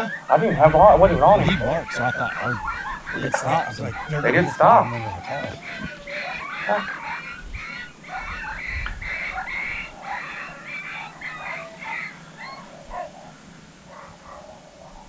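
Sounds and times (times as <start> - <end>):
coyote yipping and whining: 0.0 - 15.0.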